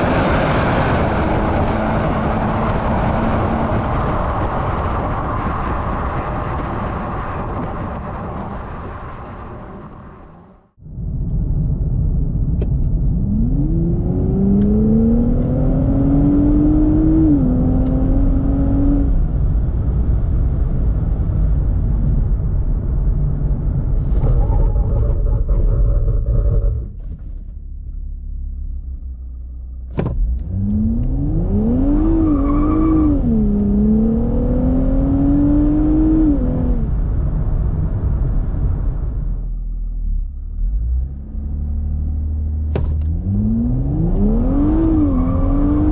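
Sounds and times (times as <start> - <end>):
car engine accelerating hard: 0.0 - 10.7, 12.5 - 27.0, 27.8 - 45.9
heavy road rumble: 0.0 - 45.9.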